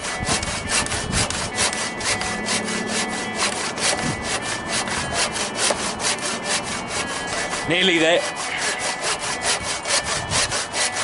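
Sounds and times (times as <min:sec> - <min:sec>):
hand saw cutting timber: 0:00.0 - 0:11.0.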